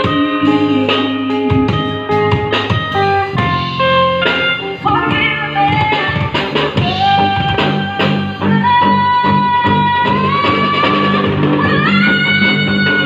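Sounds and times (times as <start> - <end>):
woman singing into a microphone: 0.0 - 2.4, 4.8 - 13.0
backing track with a beat: 0.0 - 13.0.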